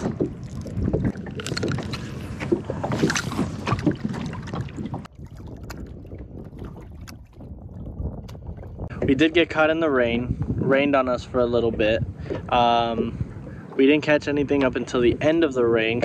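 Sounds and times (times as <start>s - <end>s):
water lapping at hull: 0.0s - 16.0s
wind on microphone: 0.0s - 16.0s.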